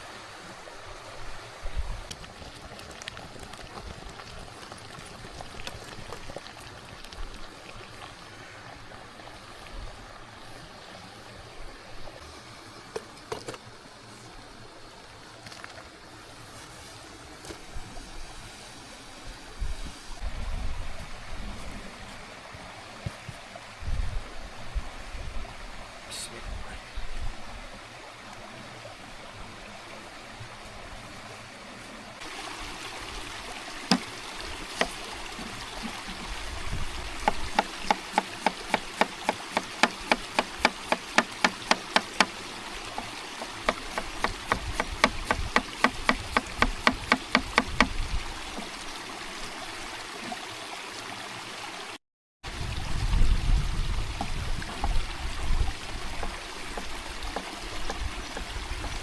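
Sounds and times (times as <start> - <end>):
stream running water: 0.0 - 59.0.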